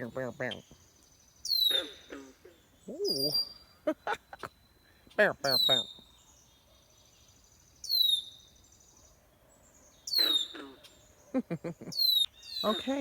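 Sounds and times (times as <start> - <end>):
bird calling: 0.0 - 6.8, 7.8 - 8.6, 9.9 - 13.0.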